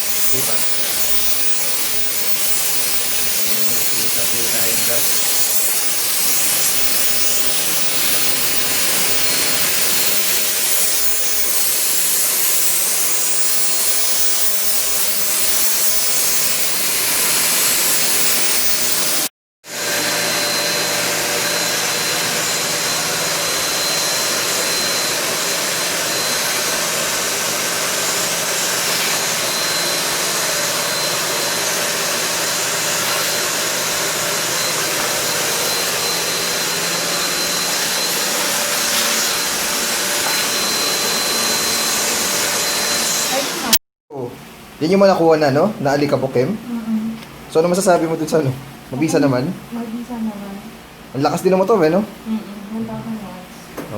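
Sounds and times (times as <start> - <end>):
vacuum cleaner running: 0.0 - 43.8, 47.6 - 50.3
high whine: 0.0 - 45.0.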